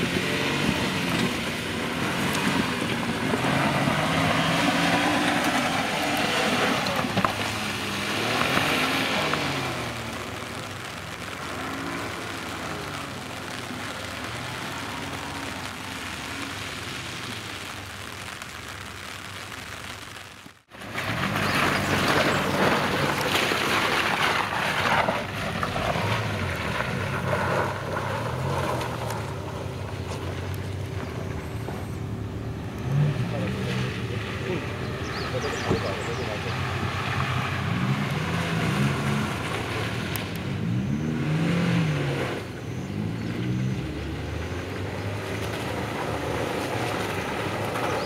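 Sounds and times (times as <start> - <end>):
off-road engine revving: 0.0 - 18.3, 20.7 - 48.0.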